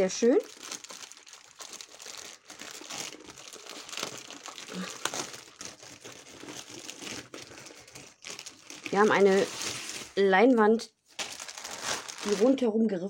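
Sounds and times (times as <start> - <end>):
packaging crinkling: 0.2 - 10.2, 11.1 - 12.6.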